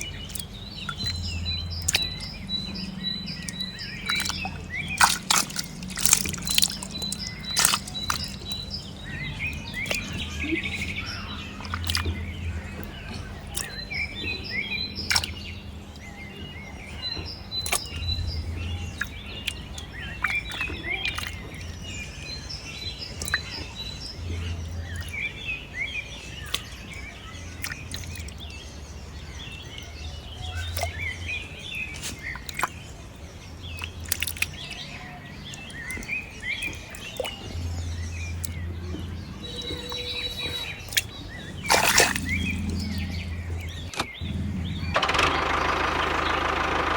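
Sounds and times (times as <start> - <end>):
small birds chirping: 0.0 - 46.9
steady low hum: 0.0 - 46.9.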